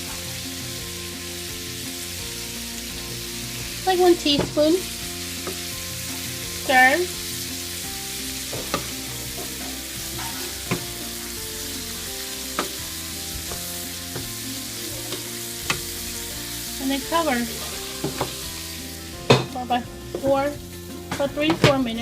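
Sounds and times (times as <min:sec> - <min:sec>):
shrimp sizzling in a hot pan: 0:00.0 - 0:22.0.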